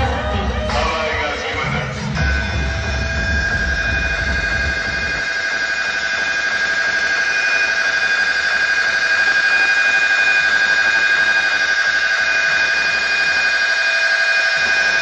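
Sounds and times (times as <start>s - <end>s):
fluttering electronic alarm tone: 2.2s - 15.0s.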